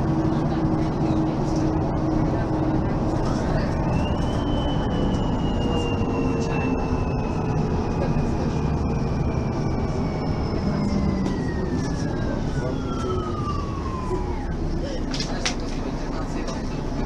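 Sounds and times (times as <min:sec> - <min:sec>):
bus drivetrain whine: 0:00.0 - 0:17.0
bus running noise: 0:00.0 - 0:17.0.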